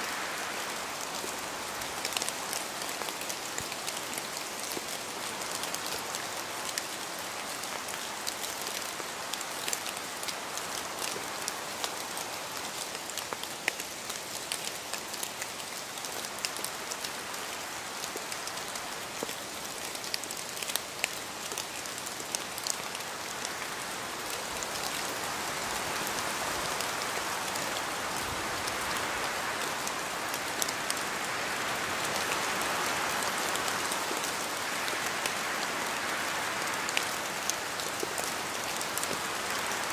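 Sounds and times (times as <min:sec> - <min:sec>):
rain falling: 0:00.0 - 0:39.9
raindrops ticking on a surface: 0:00.0 - 0:39.9.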